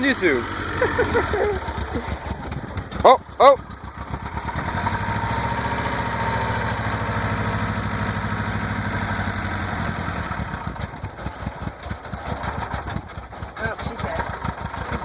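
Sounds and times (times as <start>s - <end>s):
car engine with rhythmic knock: 0.0s - 15.0s.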